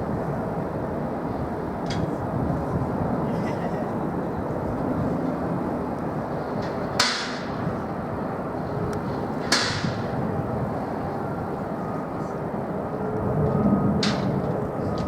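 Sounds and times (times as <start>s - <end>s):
jet aircraft rumble: 0.0s - 15.0s.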